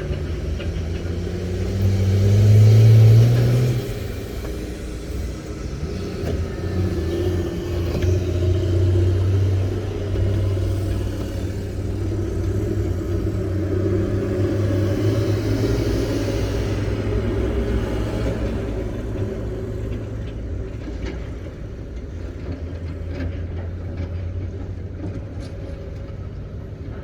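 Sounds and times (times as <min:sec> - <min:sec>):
excavator diesel engine revving: 0:00.0 - 0:27.0.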